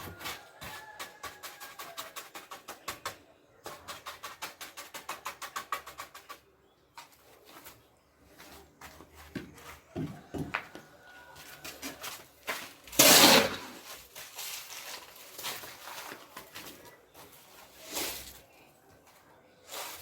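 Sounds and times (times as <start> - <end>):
hand tools scraping concrete: 0.0 - 9.9, 11.4 - 18.5, 19.6 - 20.0.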